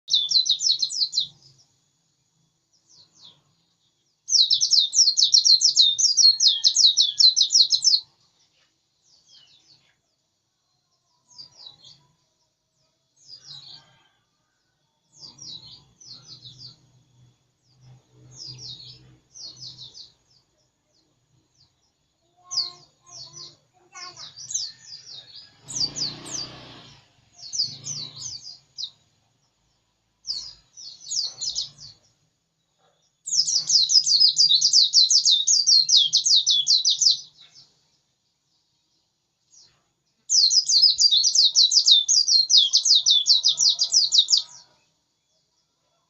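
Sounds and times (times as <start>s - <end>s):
bird twittering song: 0.0s - 45.7s.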